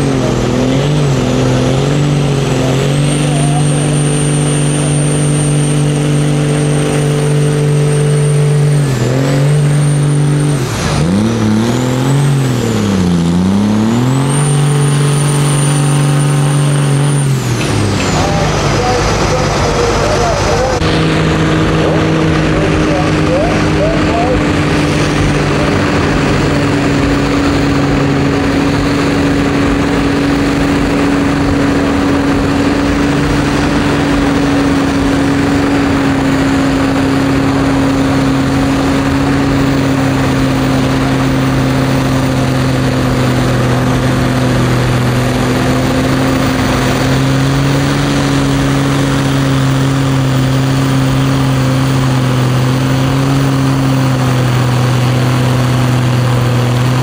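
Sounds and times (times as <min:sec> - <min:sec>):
tractor engine droning under load: 0:00.0 - 0:57.0.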